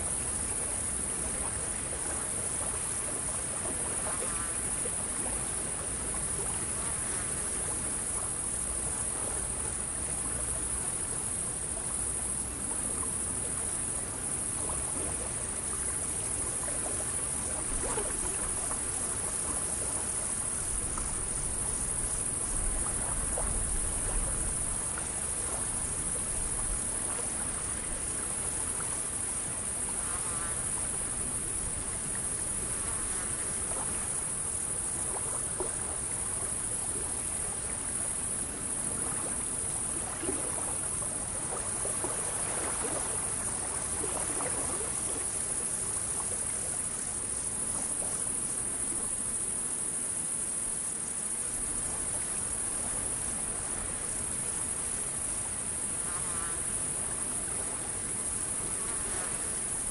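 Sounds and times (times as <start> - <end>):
insects buzzing: 0.0 - 59.9
soft background hiss: 0.0 - 59.9.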